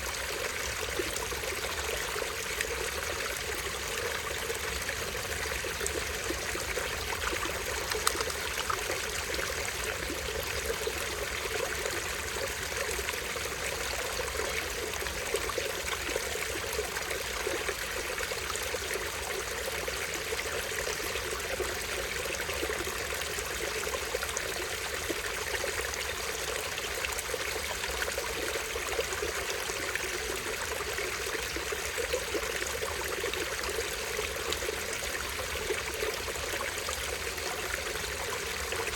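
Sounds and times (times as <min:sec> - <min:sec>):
stream trickling over small waterfall: 0:00.0 - 0:38.9.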